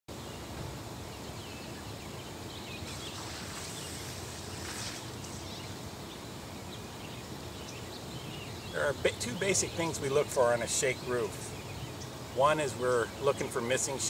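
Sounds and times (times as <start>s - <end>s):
low rumble and hiss: 0.1s - 14.0s
faint chirps: 1.6s - 14.0s.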